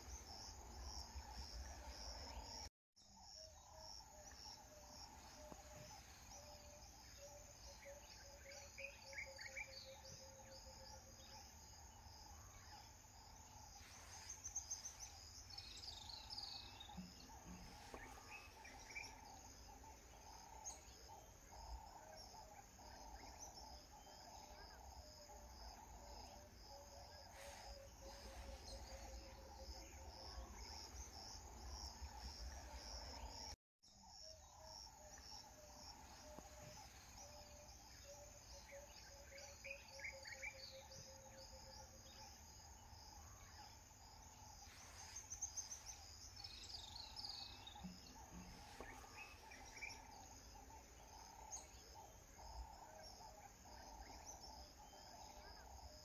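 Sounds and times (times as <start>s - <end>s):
insect calls: 0.0s - 56.0s.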